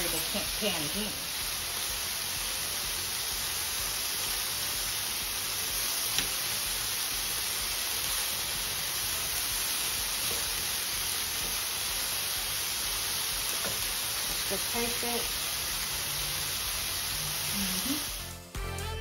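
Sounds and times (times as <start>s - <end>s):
chicken sizzling in frying pan: 0.0s - 18.3s.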